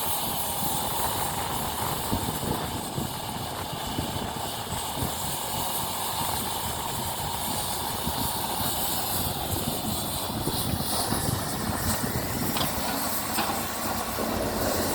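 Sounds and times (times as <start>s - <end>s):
excavator engine drone with whine: 0.0s - 14.9s.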